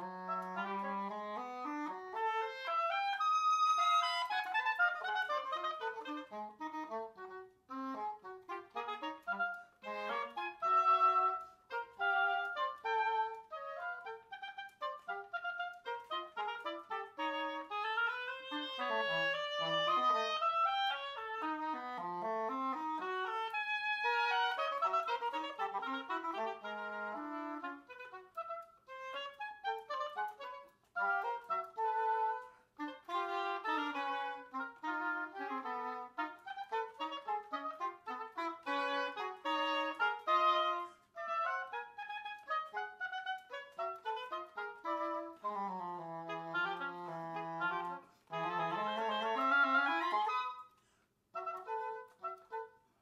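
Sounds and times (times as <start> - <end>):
english horn playing: 0.0 - 52.7
oboe playing: 0.0 - 53.0.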